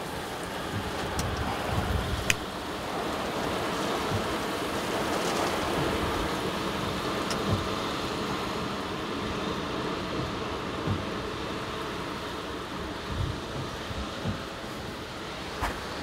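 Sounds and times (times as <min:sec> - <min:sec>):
storm wind and rain: 0:00.0 - 0:16.0.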